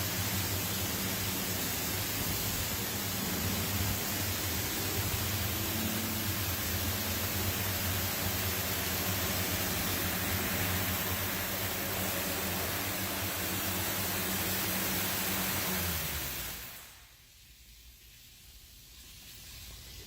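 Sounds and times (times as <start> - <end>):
low motor hum: 0.0 - 16.9
car wash rushing hiss: 0.0 - 20.0.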